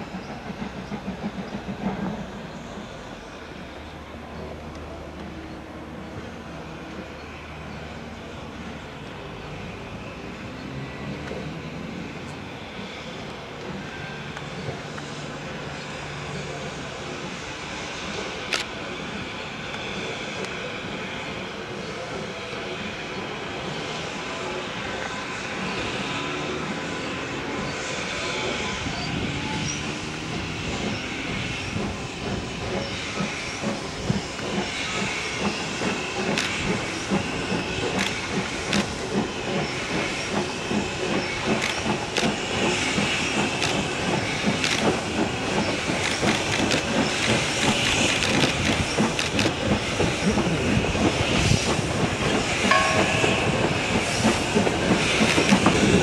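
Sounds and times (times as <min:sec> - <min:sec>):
steam locomotive chuffing: 0:00.0 - 0:56.0
steam hissing: 0:07.5 - 0:56.0.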